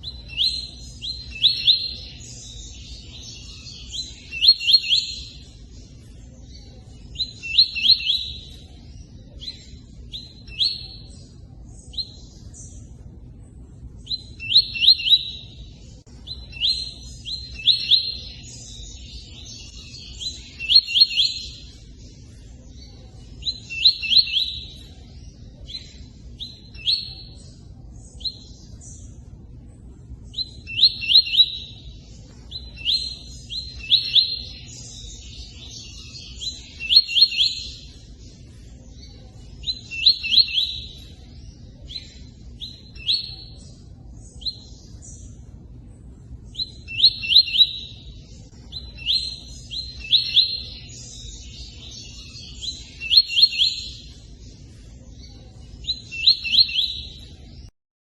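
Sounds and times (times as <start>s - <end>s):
songbird chirping: 0.0s - 57.8s.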